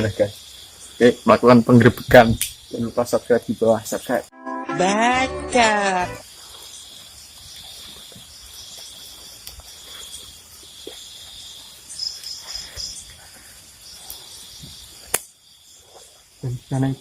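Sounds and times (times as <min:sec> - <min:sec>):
crickets chirring: 0:00.0 - 0:04.3, 0:05.6 - 0:17.0.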